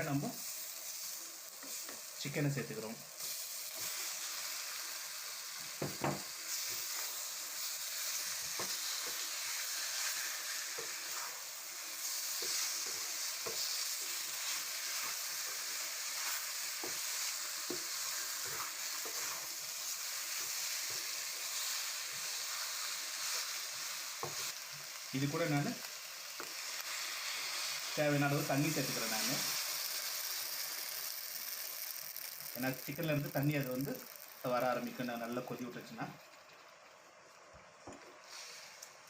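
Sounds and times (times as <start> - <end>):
chicken sizzling in a pan: 0.0 - 39.0.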